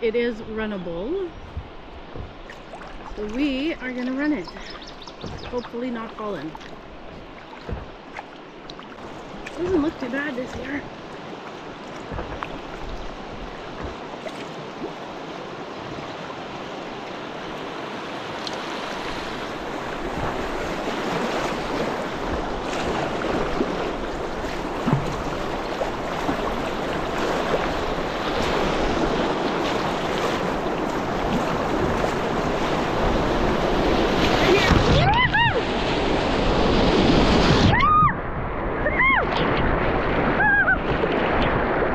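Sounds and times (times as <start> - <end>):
rushing whitewater: 0.0 - 41.9
water splashes: 0.0 - 41.9.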